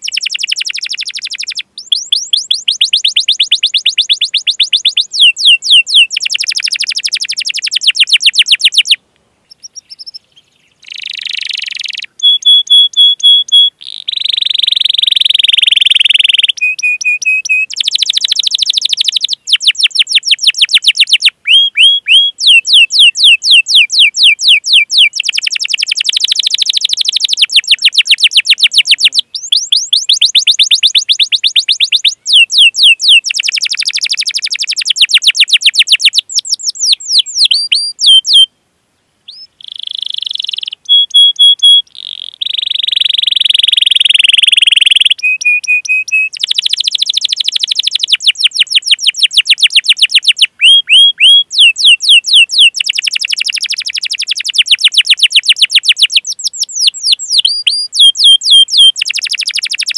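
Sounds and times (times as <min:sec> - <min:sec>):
canary singing: 0:00.0 - 0:38.5, 0:39.3 - 0:59.9.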